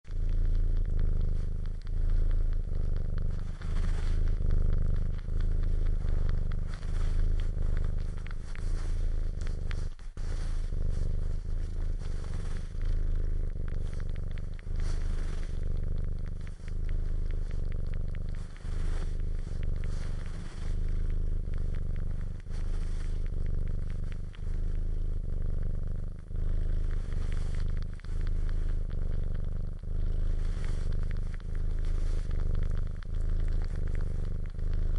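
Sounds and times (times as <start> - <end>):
cat purring: 0.0 - 34.9
wet suckling clicks: 0.1 - 34.9.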